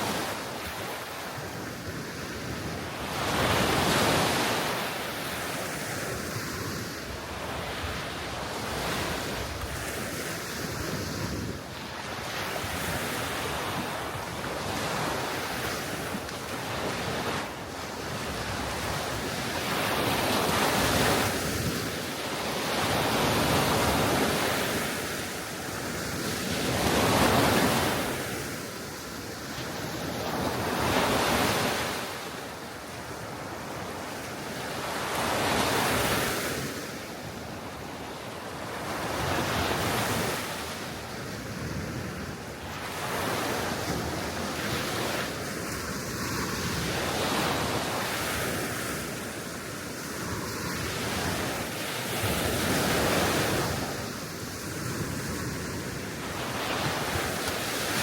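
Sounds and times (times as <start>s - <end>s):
sea waves washing on shore: 0.0s - 58.0s
steady wind: 0.0s - 58.0s.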